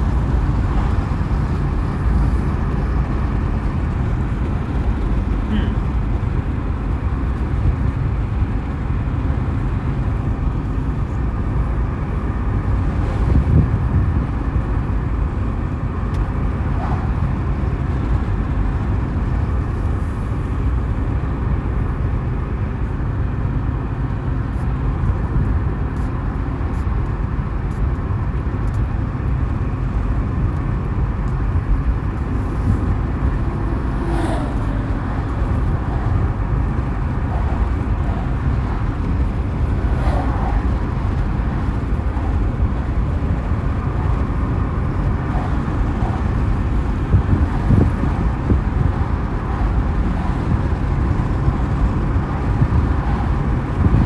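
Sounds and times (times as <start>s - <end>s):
low mechanical rumble: 0.0s - 54.0s.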